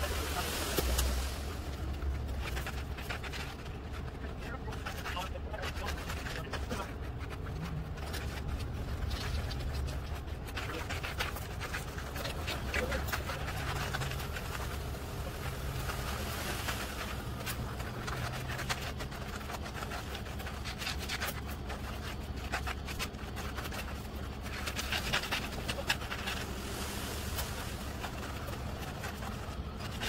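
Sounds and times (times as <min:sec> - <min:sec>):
rakes scraping wet concrete: 0:00.0 - 0:30.0.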